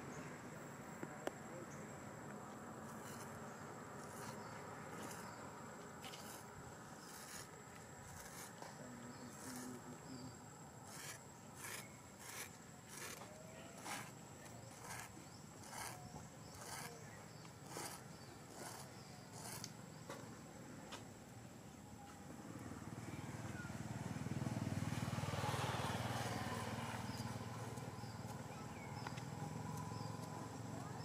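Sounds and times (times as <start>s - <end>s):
insects chirping: 0.0s - 23.4s, 24.1s - 31.0s
low outdoor hiss: 0.0s - 31.0s.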